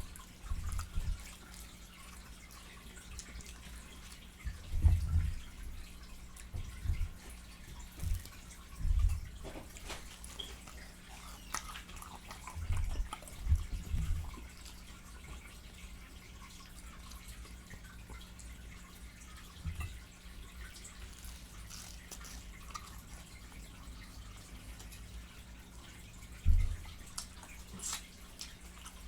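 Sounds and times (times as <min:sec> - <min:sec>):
wet chewing and mouth smacking: 0:00.0 - 0:18.4, 0:20.6 - 0:25.6, 0:26.4 - 0:29.0.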